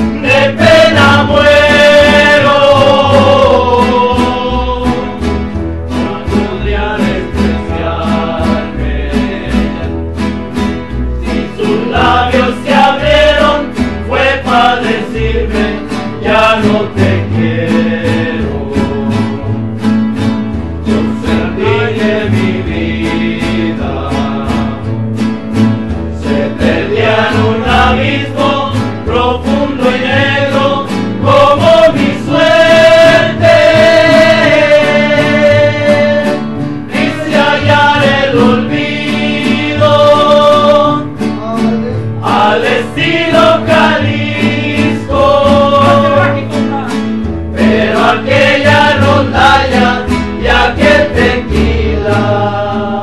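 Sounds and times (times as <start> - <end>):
voices singing in harmony: 0.0 - 19.8, 20.6 - 53.0
double bass: 0.0 - 53.0
strummed guitars: 0.0 - 53.0.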